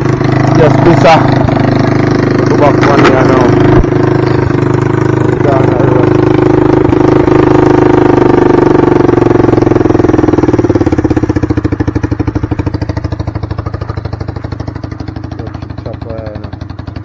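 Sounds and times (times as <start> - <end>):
small go-kart engine revving: 0.0 - 15.6.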